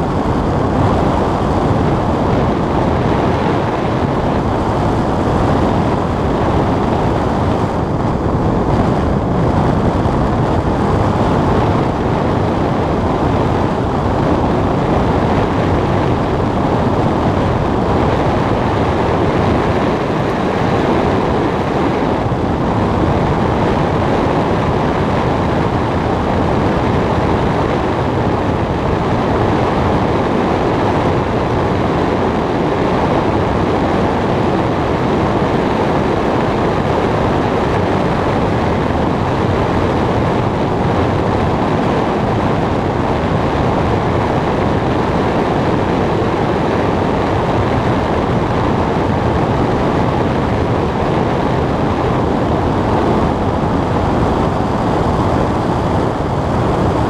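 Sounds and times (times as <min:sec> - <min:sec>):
airflow rushing over glider canopy: 0:00.0 - 0:57.0.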